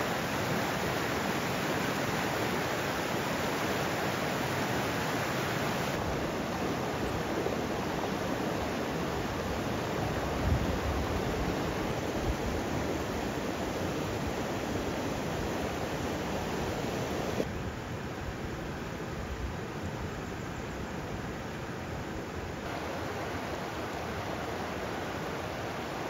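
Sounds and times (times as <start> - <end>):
stream rushing over rocks: 0.0 - 17.5, 22.6 - 26.0.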